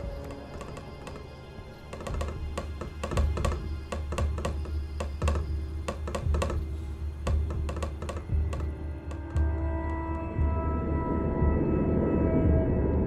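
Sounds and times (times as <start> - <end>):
background music with low drone: 0.0 - 13.0.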